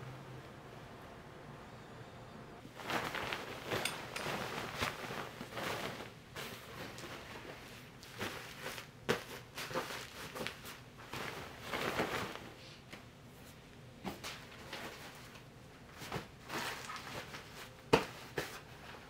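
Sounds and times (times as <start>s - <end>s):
bedding rustling: 2.6s - 19.0s.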